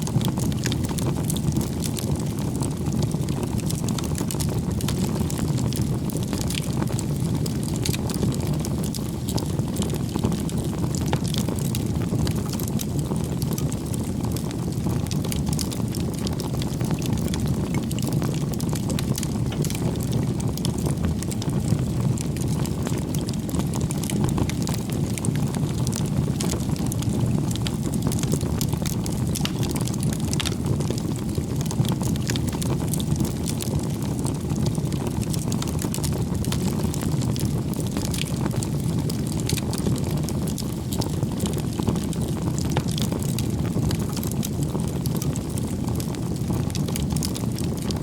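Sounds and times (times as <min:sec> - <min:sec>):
low rumble of flames: 0:00.0 - 0:48.0
wood crackling and popping: 0:00.0 - 0:48.0.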